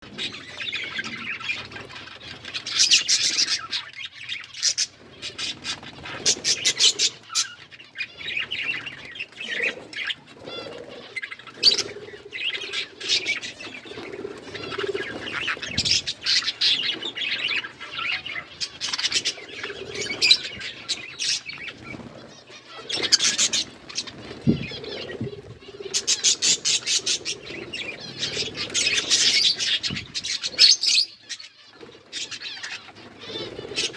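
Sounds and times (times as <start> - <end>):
budgerigars chirping: 0.2 - 33.9.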